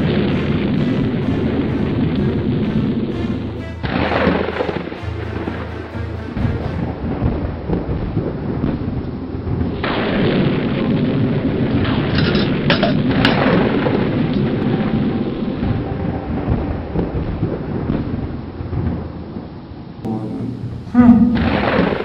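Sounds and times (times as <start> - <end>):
thunder cracks: 0.0 - 19.5, 20.6 - 22.0
thunder rumbling: 0.0 - 22.0.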